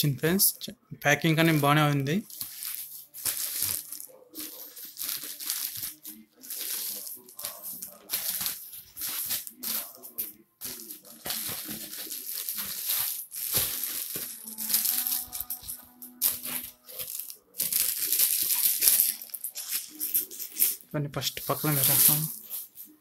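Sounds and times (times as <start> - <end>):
foam sheets and plastic wrap rustling: 1.3 - 23.0.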